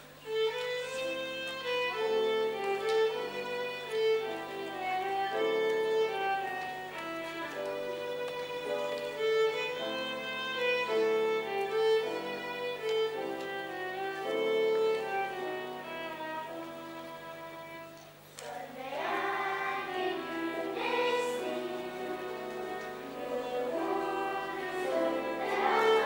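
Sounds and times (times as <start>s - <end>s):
violin melody: 0.0s - 26.0s.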